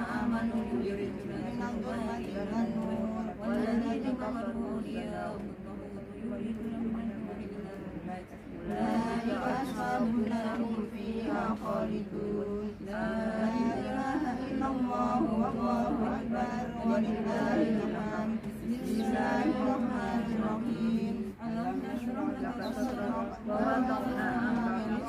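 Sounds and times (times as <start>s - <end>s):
women chanting together: 0.0s - 25.0s.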